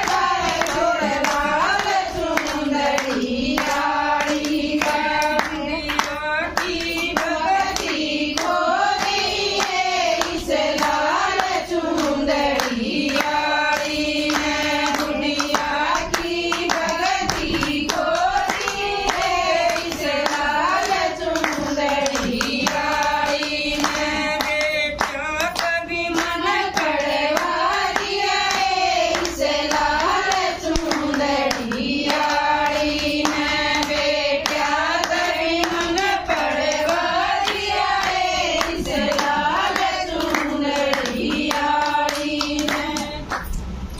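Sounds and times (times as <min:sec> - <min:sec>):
hand clapping: 0:00.0 - 0:43.7
women singing devotional song: 0:00.0 - 0:43.8.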